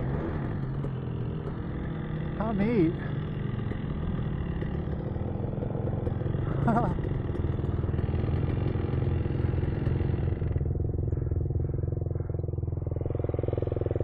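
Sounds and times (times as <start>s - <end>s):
dirt bike engine idling: 0.0s - 14.0s.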